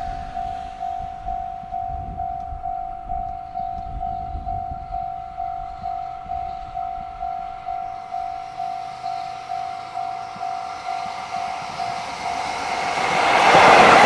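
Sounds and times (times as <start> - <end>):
level crossing alarm dinging: 0.0 - 13.1
locomotive rumble: 0.0 - 14.0.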